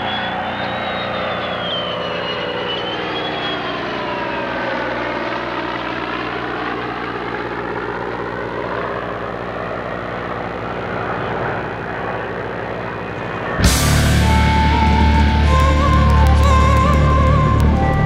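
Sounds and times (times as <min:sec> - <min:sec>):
jet flying past: 0:00.0 - 0:16.6
propeller engine droning: 0:00.0 - 0:18.0.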